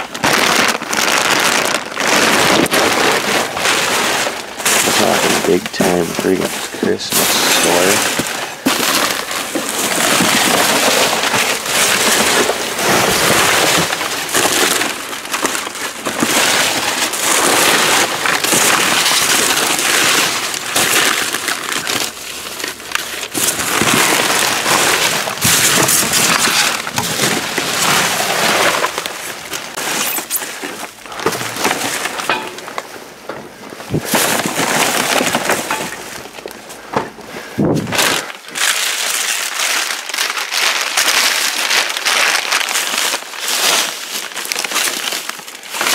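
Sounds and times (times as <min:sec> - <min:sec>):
items knocking and crackling: 0:00.0 - 0:45.9
plastic bags crinkling: 0:00.0 - 0:45.9.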